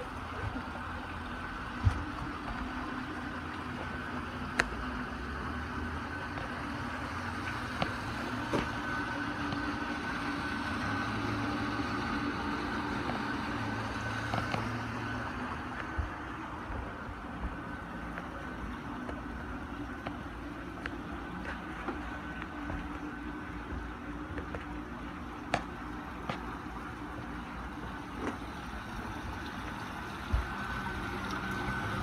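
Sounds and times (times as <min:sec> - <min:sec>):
machine hum with high whine: 0:00.0 - 0:32.0.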